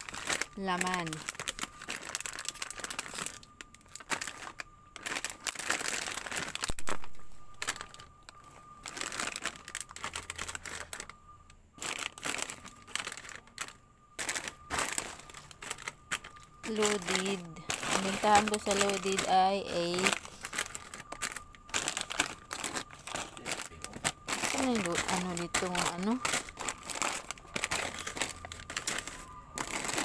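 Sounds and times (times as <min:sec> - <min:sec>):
plastic packets crinkling: 0:00.0 - 0:11.2, 0:11.8 - 0:30.0.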